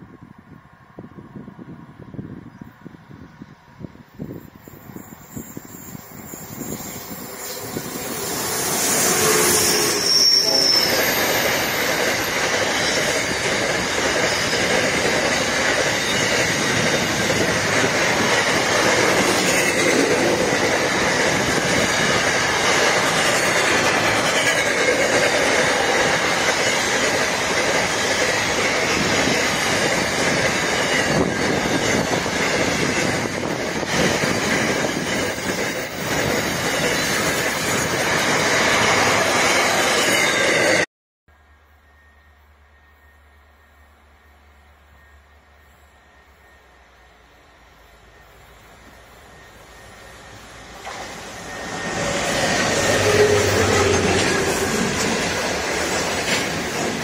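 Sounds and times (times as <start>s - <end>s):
diesel locomotive passing: 0.0s - 57.0s
rumble of wheels on rail: 0.0s - 57.0s
wavering wheel squeal: 4.6s - 35.4s, 41.8s - 57.0s.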